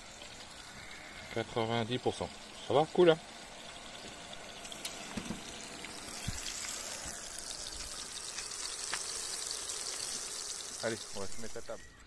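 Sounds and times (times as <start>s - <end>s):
sausage sizzling in frying pan: 0.0s - 11.9s.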